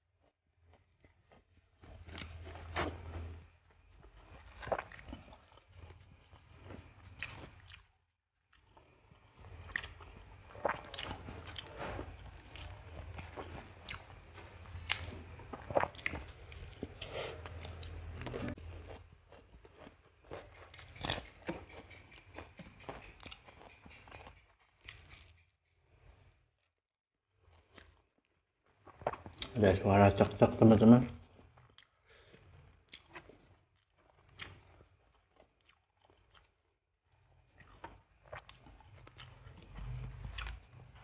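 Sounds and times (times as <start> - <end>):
chewing and mouth smacks: 0.2 - 26.2, 28.8 - 29.6, 31.4 - 41.0.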